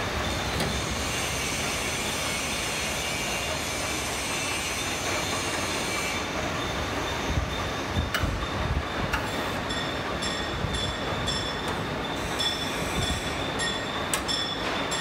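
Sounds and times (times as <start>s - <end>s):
hydraulic press motor and pump idling: 0.0s - 15.0s.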